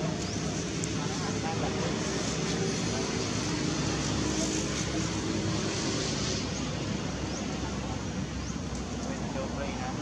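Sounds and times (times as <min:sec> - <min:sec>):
distant traffic rumble: 0:00.0 - 0:10.0.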